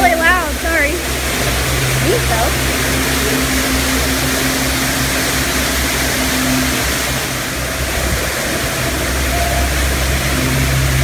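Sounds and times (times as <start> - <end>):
low hum: 0.0 - 11.0
waterfall rushing: 0.0 - 11.0.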